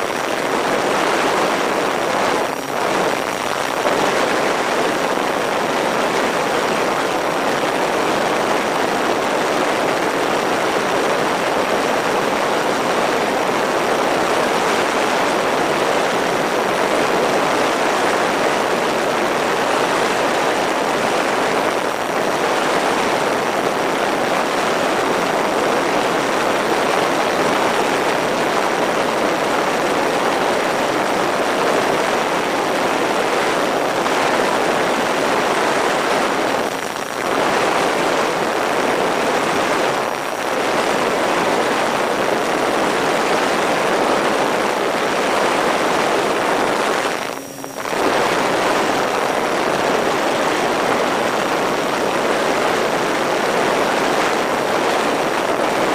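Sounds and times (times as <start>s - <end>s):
propeller noise and airflow: 0.0s - 55.9s.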